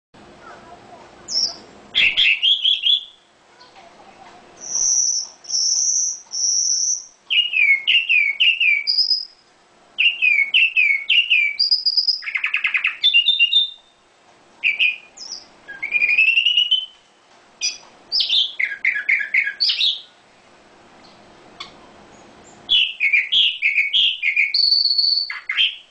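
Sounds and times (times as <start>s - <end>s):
songbird singing: 0.4s - 25.9s.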